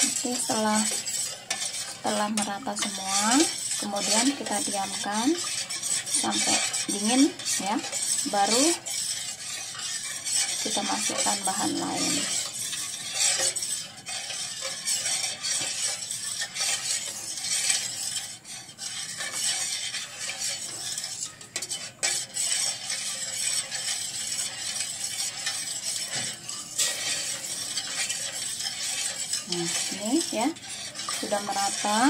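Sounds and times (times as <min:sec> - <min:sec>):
metal spoon stirring in a pot: 0:00.0 - 0:32.0.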